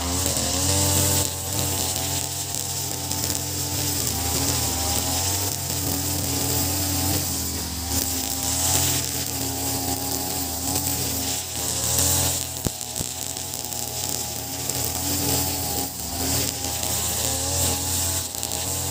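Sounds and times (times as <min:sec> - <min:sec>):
brush cutter running: 0:00.0 - 0:18.9.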